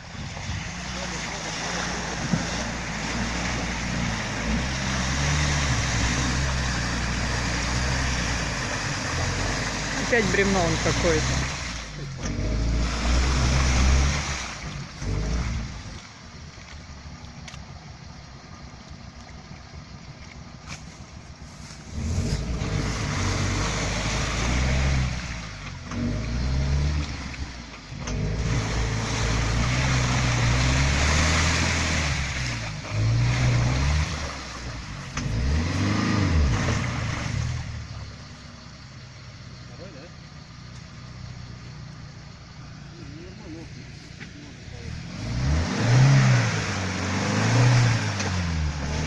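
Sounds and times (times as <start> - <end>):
off-road vehicle engine revving: 0.0 - 19.1, 19.8 - 49.0.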